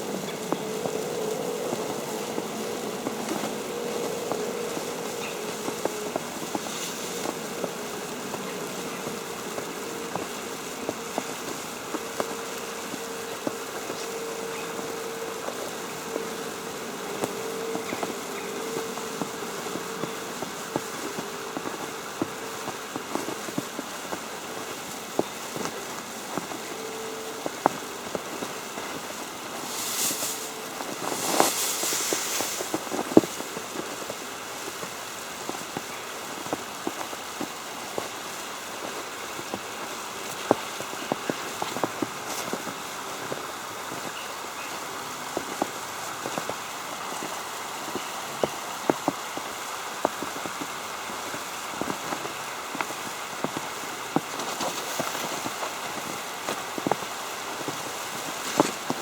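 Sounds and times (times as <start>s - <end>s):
rustling bursts: 0.0s - 59.0s
snow ticking on umbrella: 0.0s - 59.0s
steady hiss: 0.0s - 59.0s.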